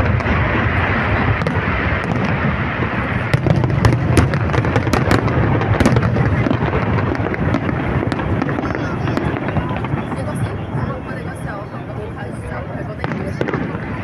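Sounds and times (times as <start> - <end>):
fireworks pops and crackles: 0.0 - 14.0
low rumble: 0.0 - 14.0.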